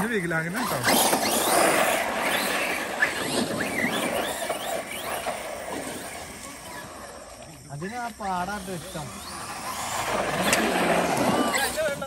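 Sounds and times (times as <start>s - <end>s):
electric toy truck motor whining: 0.0s - 12.0s
tyres rolling on paving: 0.0s - 12.0s.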